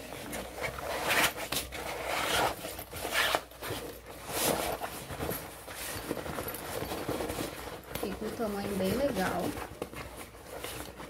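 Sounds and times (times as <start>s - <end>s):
bag rustling on tabletop: 2.0s - 11.0s.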